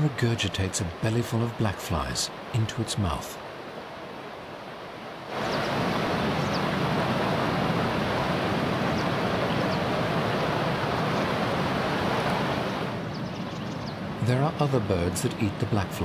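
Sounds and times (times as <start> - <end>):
whitewater rushing: 0.0 - 13.1, 14.0 - 16.0.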